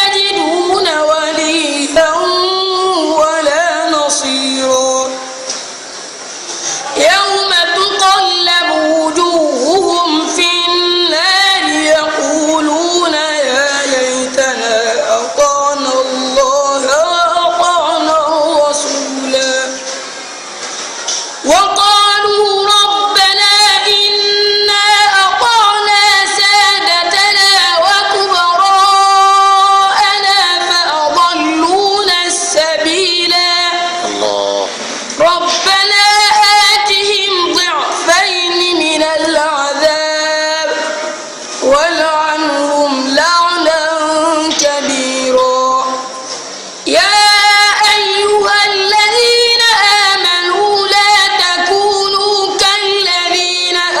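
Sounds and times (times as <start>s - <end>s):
boy chanting recitation: 0.0s - 5.5s, 6.8s - 20.0s, 21.4s - 54.0s.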